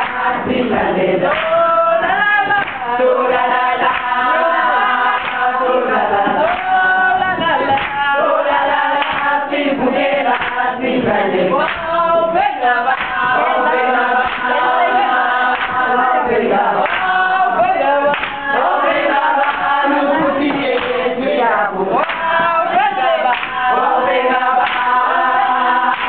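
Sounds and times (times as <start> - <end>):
group singing in harmony: 0.0 - 26.0
hand-clapping: 0.0 - 26.0.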